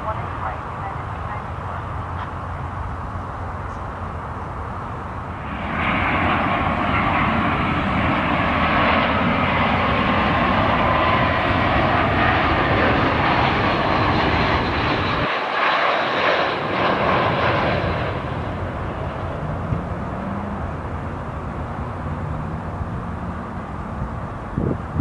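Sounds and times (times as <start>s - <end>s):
jet airliner engines whining: 0.0s - 25.0s.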